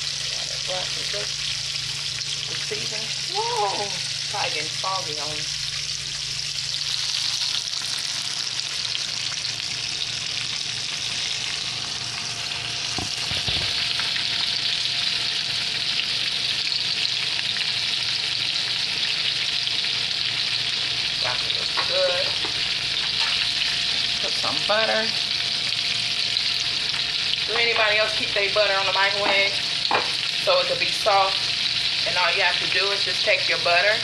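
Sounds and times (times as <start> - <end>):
chicken frying in oil: 0.0 - 34.0.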